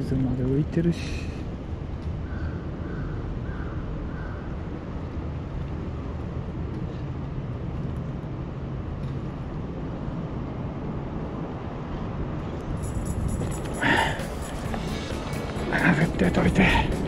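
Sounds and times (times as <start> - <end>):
city and river rumble: 0.0 - 17.0
faint engine hum: 0.0 - 17.0.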